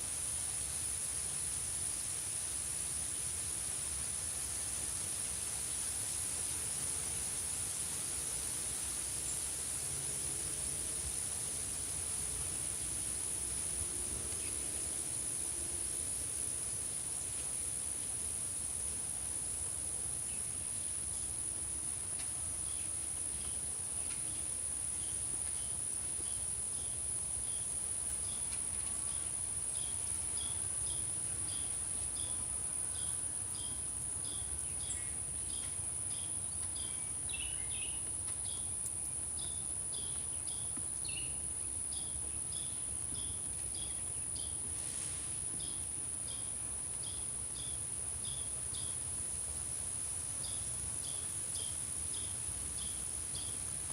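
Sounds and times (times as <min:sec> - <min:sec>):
crickets trilling: 0:00.0 - 0:53.9
repeating insect chirp: 0:10.5 - 0:53.9.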